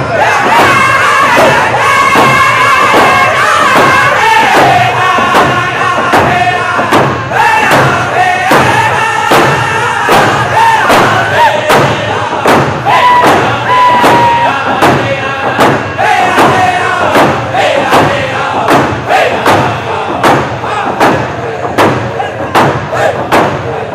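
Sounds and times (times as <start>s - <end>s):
group of singers singing: 0.0s - 23.9s
hand drums beating: 0.0s - 23.9s.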